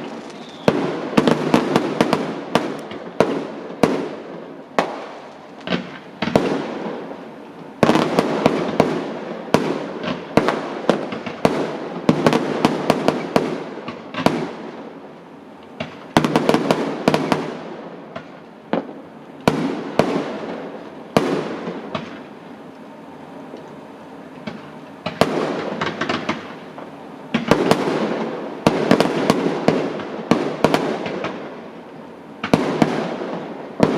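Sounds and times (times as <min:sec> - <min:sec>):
fireworks exploding: 0:00.0 - 0:33.9.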